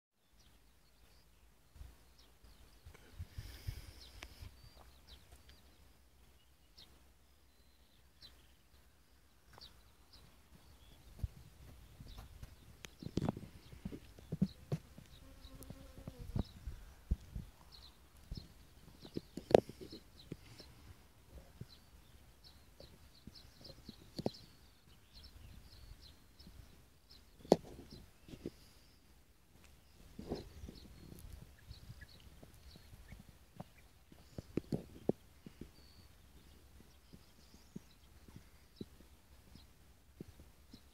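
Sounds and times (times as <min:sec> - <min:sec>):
birds calling: 0:02.1 - 0:39.7.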